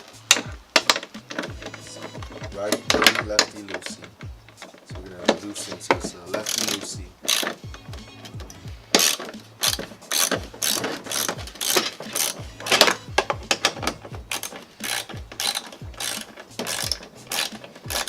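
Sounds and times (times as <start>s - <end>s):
ratchet wrench clicking: 0.2s - 18.0s.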